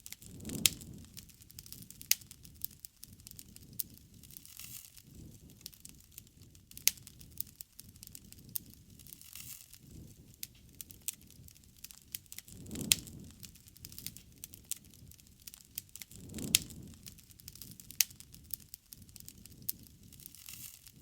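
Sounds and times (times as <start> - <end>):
flame rushing: 0.0 - 21.0
wood fire crackling and snapping: 0.0 - 21.0.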